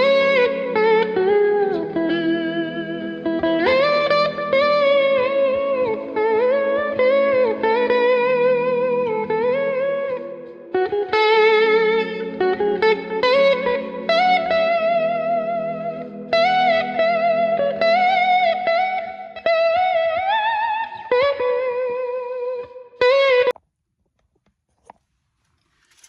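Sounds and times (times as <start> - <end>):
slow electric guitar melody: 0.0 - 23.6.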